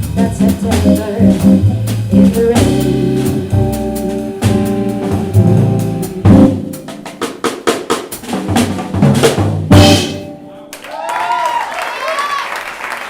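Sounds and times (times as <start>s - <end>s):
live jazz band playing: 0.0s - 10.7s
quick drum kit strokes: 0.0s - 10.7s.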